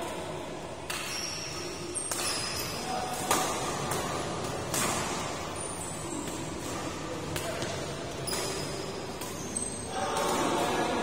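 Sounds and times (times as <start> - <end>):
rackets hitting shuttlecock: 0.8 - 11.0.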